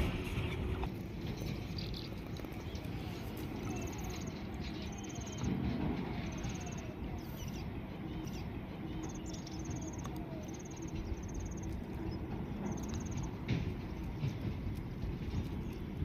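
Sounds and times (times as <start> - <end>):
low background rumble: 0.0 - 16.0
insects trilling: 0.9 - 14.3.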